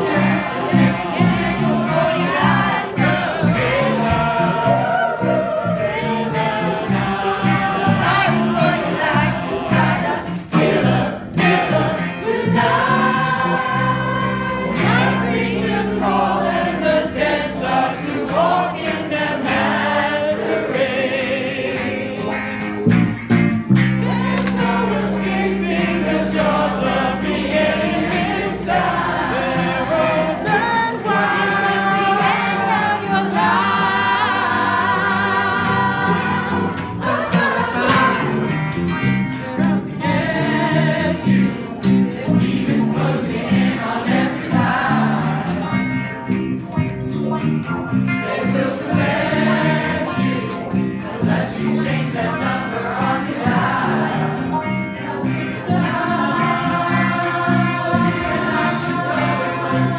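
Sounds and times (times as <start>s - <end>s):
group singing in chorus: 0.0s - 23.0s, 23.6s - 46.6s, 47.9s - 59.9s
guitars: 0.0s - 59.9s
pulsing bass line: 0.0s - 59.9s.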